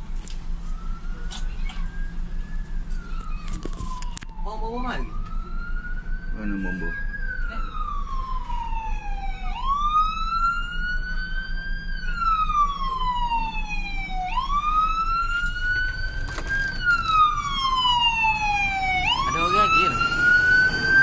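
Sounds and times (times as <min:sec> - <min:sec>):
emergency siren wailing: 0:00.0 - 0:21.0
low engine rumble: 0:00.0 - 0:21.0.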